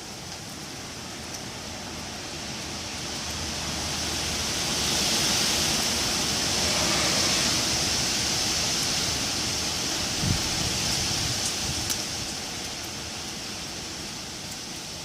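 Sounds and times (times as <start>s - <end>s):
wind gusting through trees: 0.0s - 15.0s.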